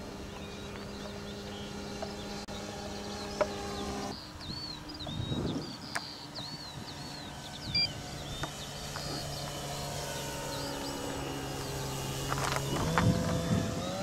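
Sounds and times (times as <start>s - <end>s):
model plane propeller drone: 0.0s - 14.0s
small birds chirping: 0.0s - 14.0s.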